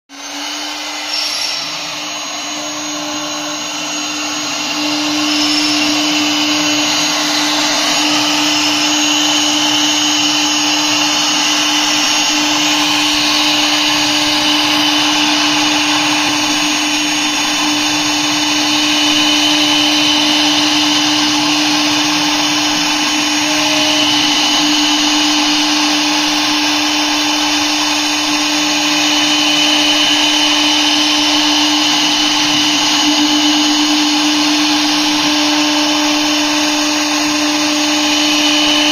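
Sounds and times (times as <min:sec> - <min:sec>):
router spindle high whine: 0:00.1 - 0:38.9.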